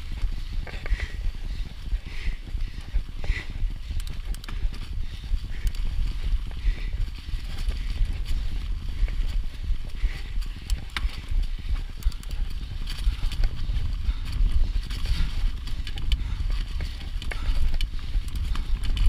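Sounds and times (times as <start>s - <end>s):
bike clicking and rattling: 0.0s - 19.0s
low rumble of wind and trail: 0.0s - 19.0s.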